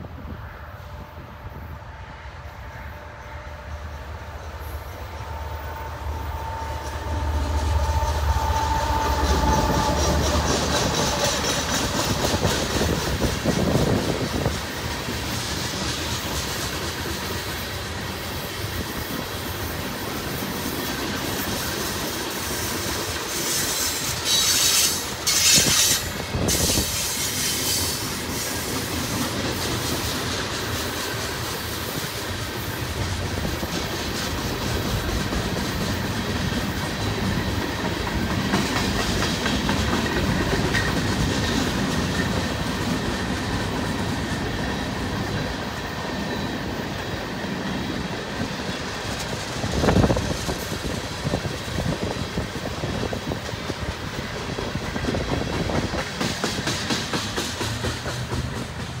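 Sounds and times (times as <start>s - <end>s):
train wheels squealing: 2.6s - 59.0s
wagons clickety-clack over rail joints: 6.7s - 59.0s.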